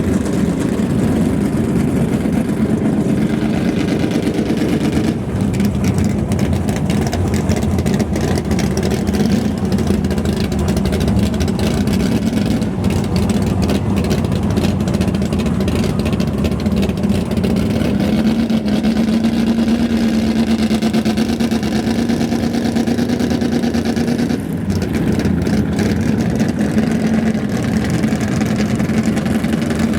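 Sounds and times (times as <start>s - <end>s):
drag car engine idling: 0.0s - 29.9s.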